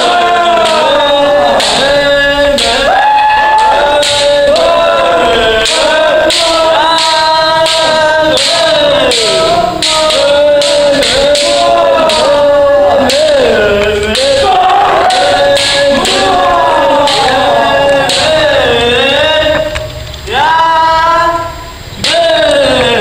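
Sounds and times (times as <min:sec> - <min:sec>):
bamboo swords clacking: 0:00.0 - 0:21.1
people shouting drawn-out cries: 0:00.0 - 0:23.0.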